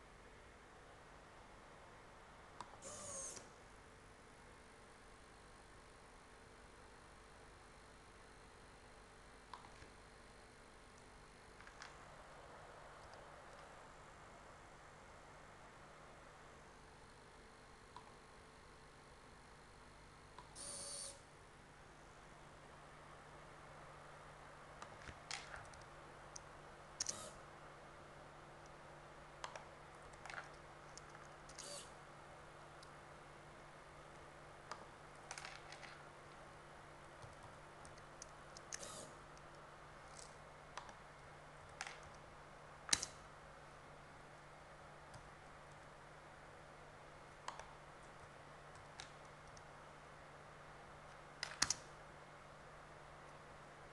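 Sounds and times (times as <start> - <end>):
quiet steady hum: 0.0 - 53.9.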